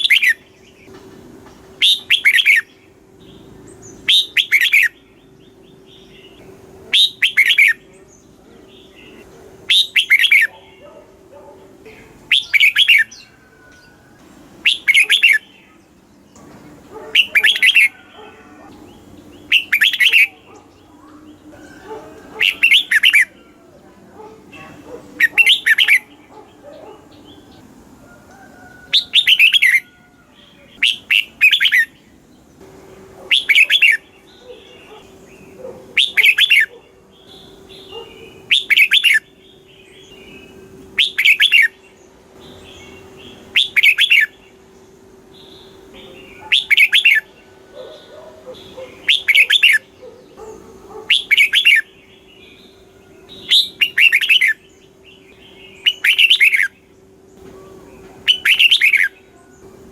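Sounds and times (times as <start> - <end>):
bird fluty song: 0.0 - 59.9.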